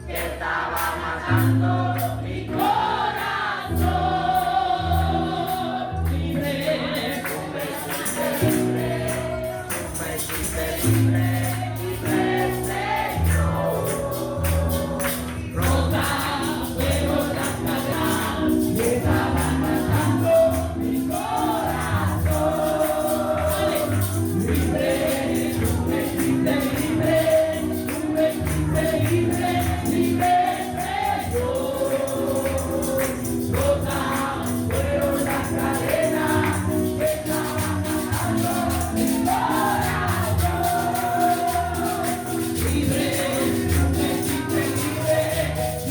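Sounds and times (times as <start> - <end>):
choir singing gospel music: 0.0 - 45.9
tambourine jingling: 6.5 - 45.9.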